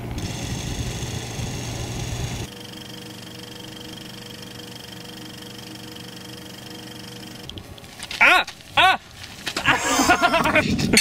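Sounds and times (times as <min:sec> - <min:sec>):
film camera mechanism whirring: 0:00.0 - 0:09.6.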